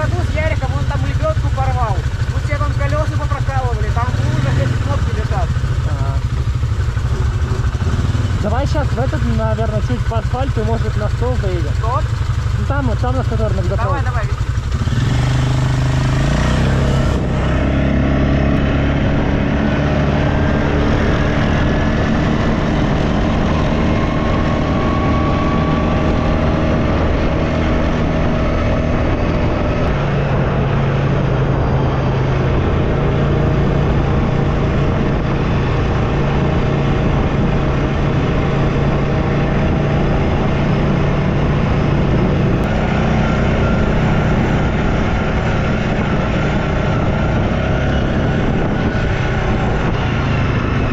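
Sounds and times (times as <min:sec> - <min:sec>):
quad bike engine droning: 0:00.0 - 0:50.9.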